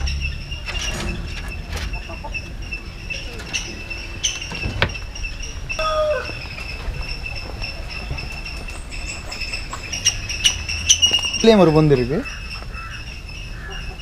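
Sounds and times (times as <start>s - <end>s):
bird call: 0.0s - 14.0s.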